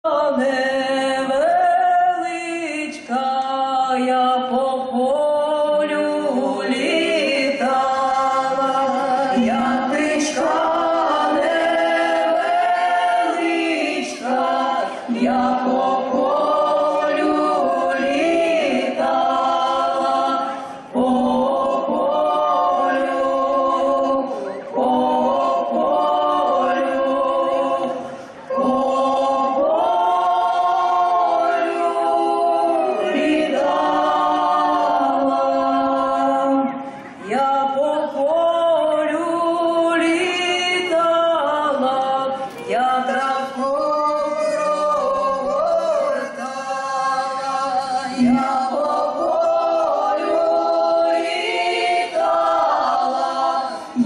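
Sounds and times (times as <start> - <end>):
folk choir singing in harmony: 0.0 - 54.0.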